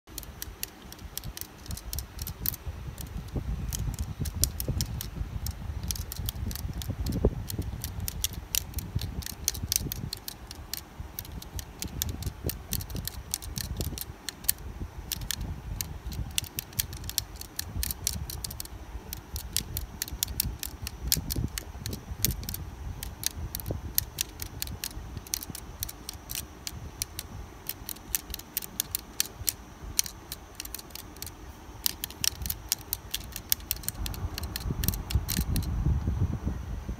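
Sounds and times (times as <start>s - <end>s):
abacus beads clicking: 0.0s - 35.7s.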